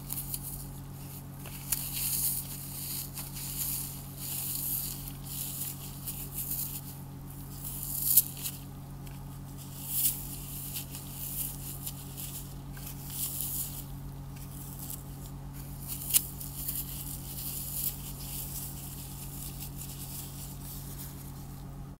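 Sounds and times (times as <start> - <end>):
dry floral foam crunching: 0.0 - 22.0.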